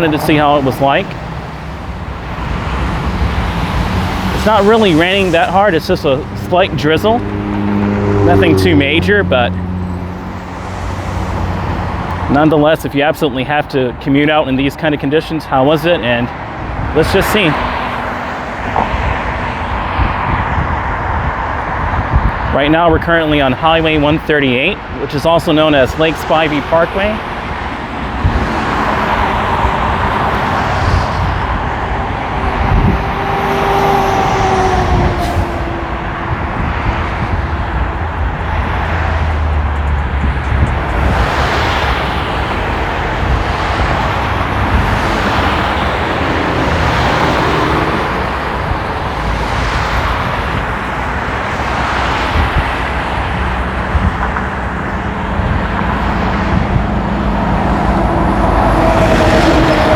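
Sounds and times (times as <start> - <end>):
wind rushing: 0.0 - 12.3, 16.3 - 24.1, 25.8 - 59.9
cars and trucks passing: 0.0 - 59.9.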